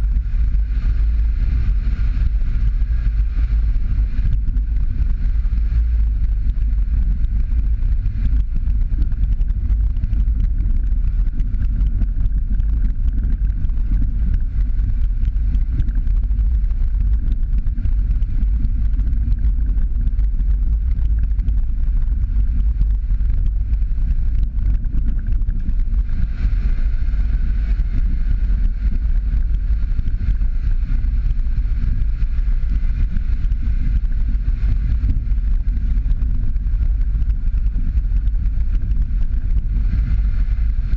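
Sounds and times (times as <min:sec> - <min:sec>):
car engine rumble: 0:00.0 - 0:40.9
wind buffeting microphone: 0:00.0 - 0:40.9.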